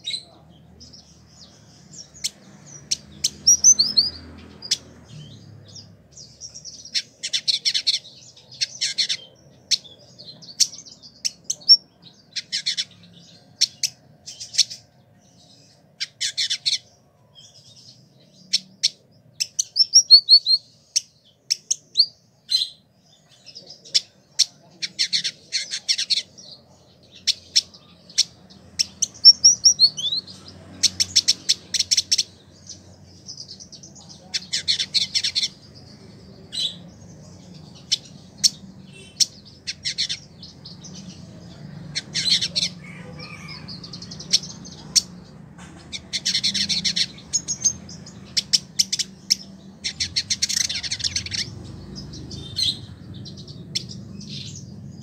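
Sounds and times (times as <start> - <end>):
bird singing buzzy chatter: 0.0 - 55.0.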